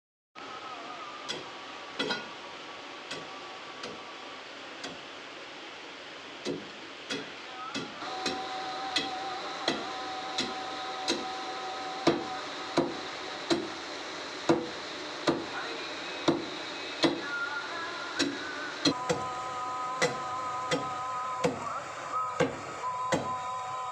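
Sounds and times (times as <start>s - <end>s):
steady hum with held tones: 0.4s - 23.9s.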